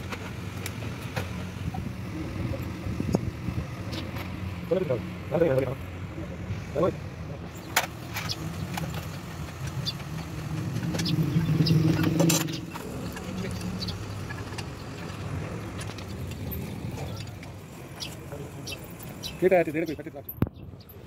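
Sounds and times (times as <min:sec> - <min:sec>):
motor vehicle engine hum: 0:00.0 - 0:21.0.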